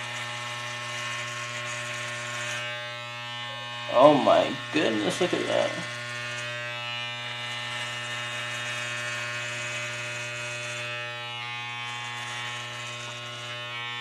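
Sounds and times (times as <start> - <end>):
electric hair clippers buzzing: 0.0 - 14.0.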